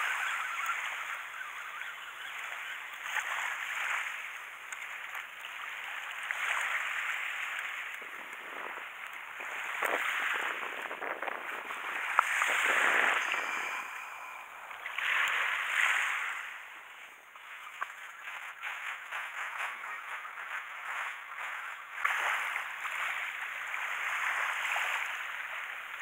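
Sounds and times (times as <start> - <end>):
small waves washing on shore: 0.0 - 26.0.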